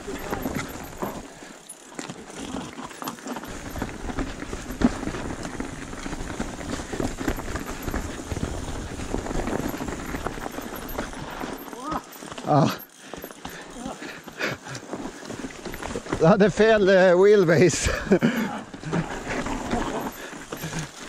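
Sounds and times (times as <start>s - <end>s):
bike chain and frame rattling: 0.0s - 21.0s
bike tyres crunching over stones: 0.0s - 21.0s.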